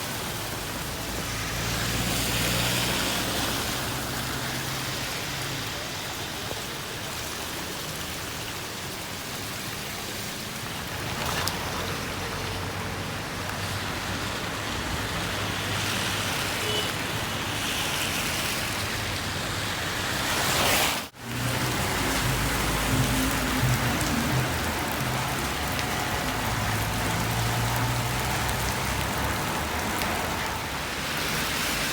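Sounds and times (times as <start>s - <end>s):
steady rain falling: 0.0s - 31.9s
vehicles on the road: 0.0s - 31.9s.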